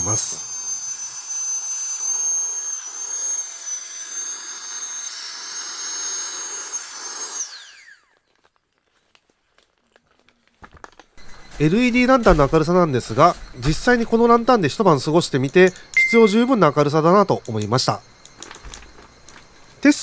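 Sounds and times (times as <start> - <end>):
electric air pump whining: 0.0 - 8.3, 11.1 - 20.0.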